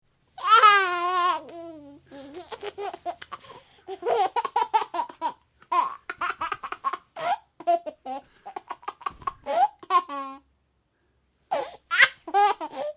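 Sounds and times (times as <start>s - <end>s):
baby giggling: 0.4s - 10.4s, 11.5s - 12.9s.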